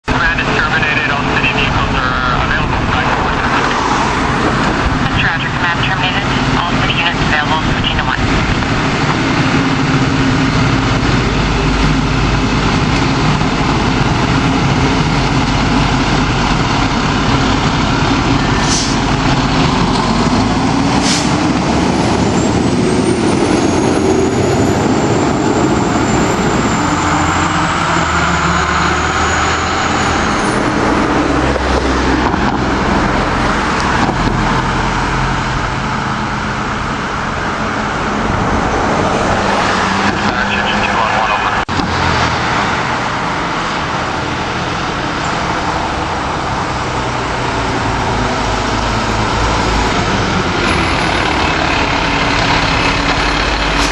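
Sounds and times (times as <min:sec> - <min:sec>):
fire engine engine running: 0:00.0 - 0:53.9.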